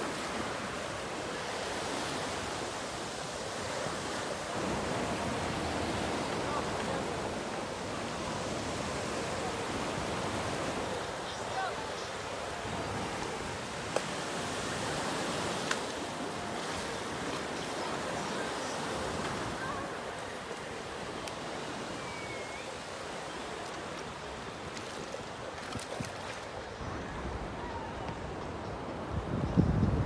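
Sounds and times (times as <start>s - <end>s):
small waves washing on shore: 0.0s - 29.3s.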